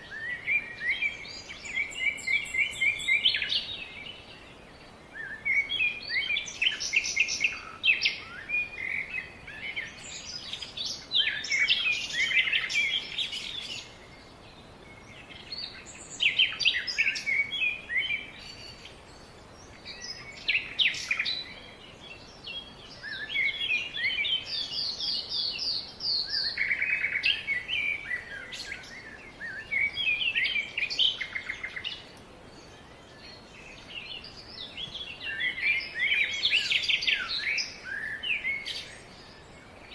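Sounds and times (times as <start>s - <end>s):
faint background hiss: 0.0s - 39.9s
songbirds singing and chirping: 0.0s - 39.9s.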